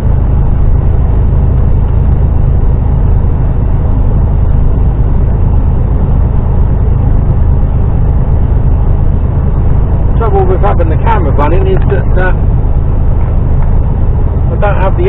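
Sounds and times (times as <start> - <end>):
lorry diesel engine drone: 0.0 - 15.0
road noise: 0.0 - 15.0.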